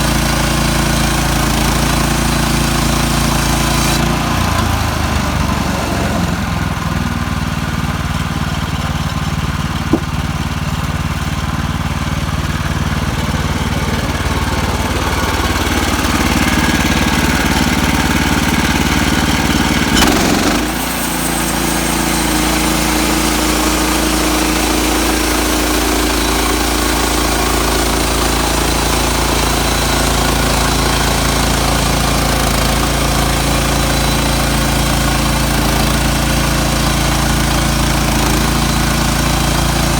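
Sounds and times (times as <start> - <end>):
sawmill gasoline engine running: 0.0 - 39.9.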